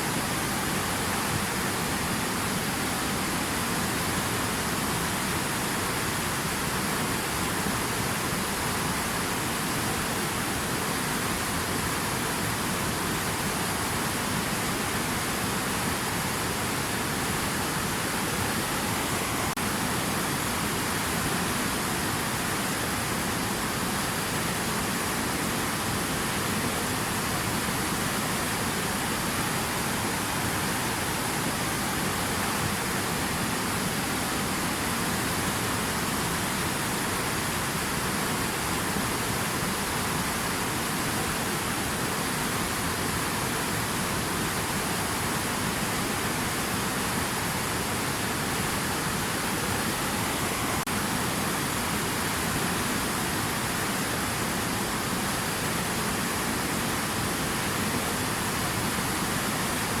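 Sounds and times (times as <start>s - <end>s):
water rushing: 0.0s - 60.0s.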